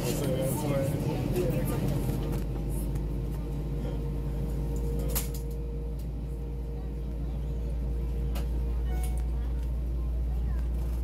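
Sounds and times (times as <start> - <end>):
jet engines idling in cabin: 0.0 - 11.0.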